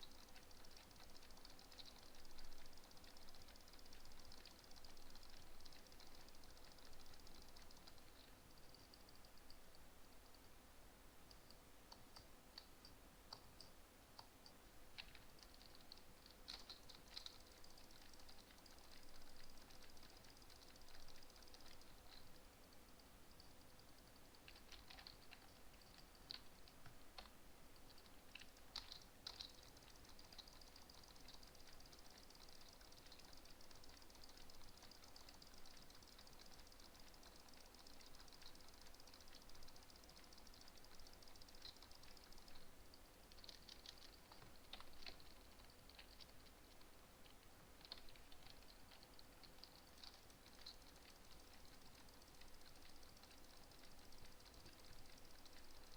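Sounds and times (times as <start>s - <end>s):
small sharp clicks: 0.0s - 10.6s, 11.2s - 55.9s.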